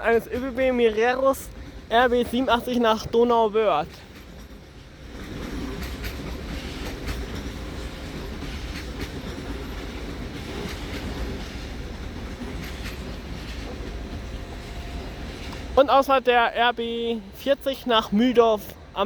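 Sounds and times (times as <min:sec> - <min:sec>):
wheels clicking over rail joints: 0:00.0 - 0:16.2
train rumbling: 0:00.0 - 0:19.0.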